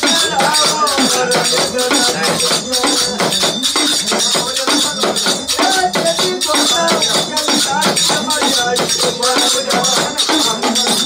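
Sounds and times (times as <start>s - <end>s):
jingling shaking percussion: 0.0s - 11.0s
person singing: 0.0s - 11.0s.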